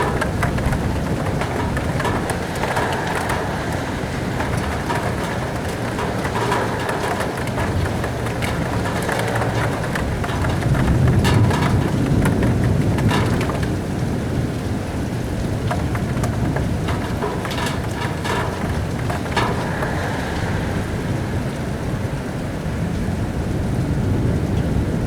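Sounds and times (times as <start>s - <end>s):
raindrops tapping on glass: 0.0s - 21.1s
wind gusting: 0.0s - 23.2s
steady hiss of rain: 0.0s - 25.0s.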